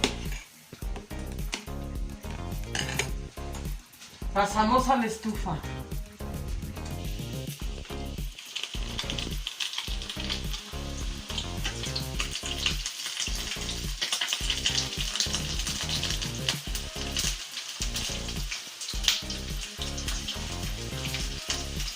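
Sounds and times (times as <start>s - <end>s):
food sizzling in oil: 0.0s - 21.9s.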